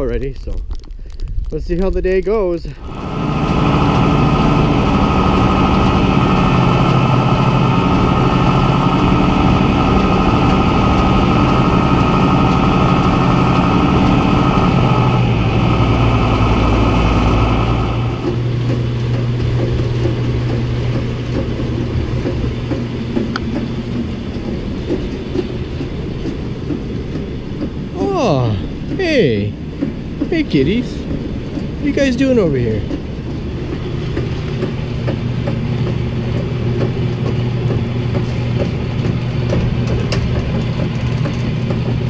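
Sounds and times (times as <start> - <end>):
farm machinery humming: 2.5 - 42.0.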